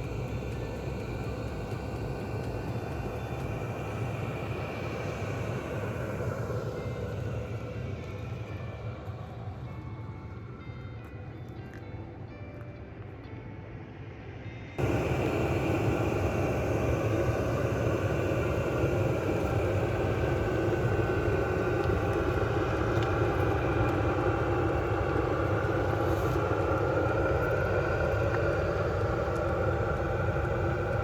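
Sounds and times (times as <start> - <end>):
diesel air heater running: 0.0 - 31.0.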